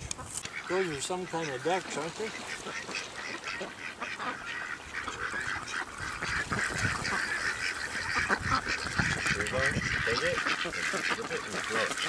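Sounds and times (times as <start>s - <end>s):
ducks quacking and honking: 0.0s - 12.0s.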